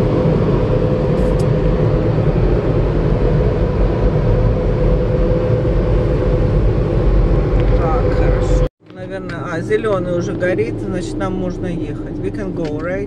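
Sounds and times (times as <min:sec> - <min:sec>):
constant blower whine: 0:00.0 - 0:13.0.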